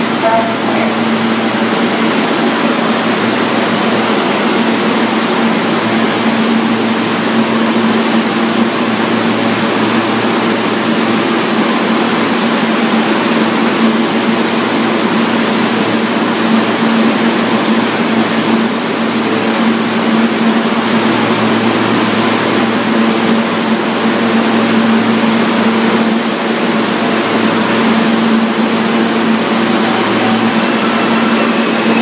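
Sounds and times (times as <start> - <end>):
constant rushing noise: 0.0 - 32.0
train ventilation hum: 0.0 - 32.0.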